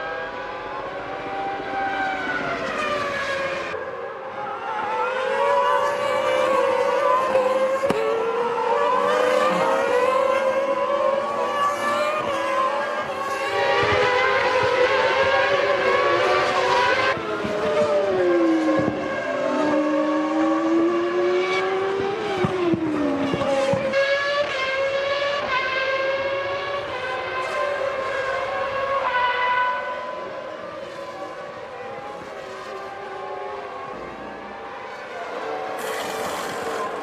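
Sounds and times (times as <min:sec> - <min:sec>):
race car engines at high revs: 0:00.0 - 0:37.0.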